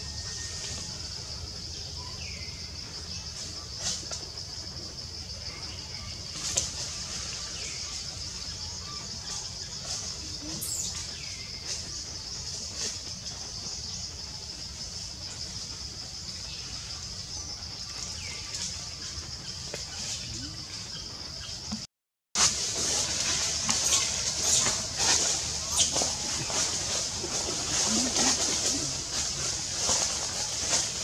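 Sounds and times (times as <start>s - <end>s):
forest insects droning: 0.0s - 31.0s.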